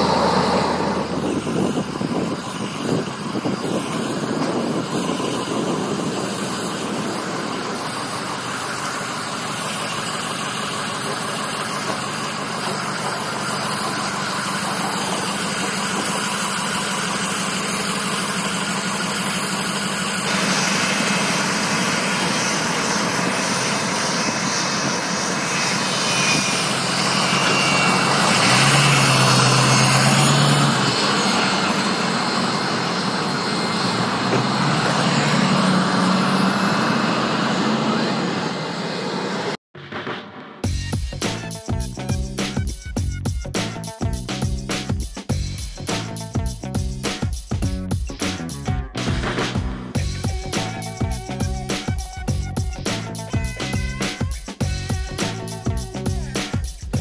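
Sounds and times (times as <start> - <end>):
mechanical engine drone: 0.0 - 57.0.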